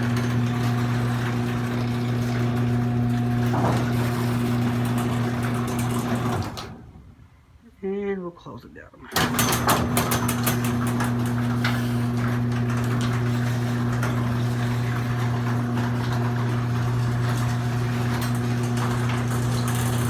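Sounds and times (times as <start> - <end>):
chain and moving door: 0.0 - 6.8, 9.1 - 20.0
garage door opener motor hum: 0.0 - 7.2, 9.1 - 20.0.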